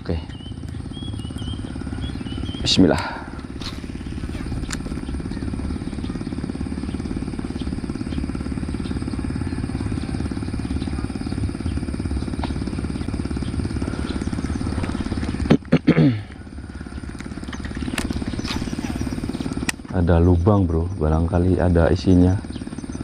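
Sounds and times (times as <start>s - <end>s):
low mechanical whirring: 0.0s - 23.0s.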